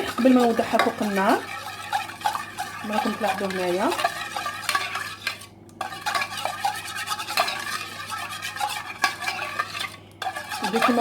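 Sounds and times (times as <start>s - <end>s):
utensil scraping and clinking a pot: 0.0s - 11.0s.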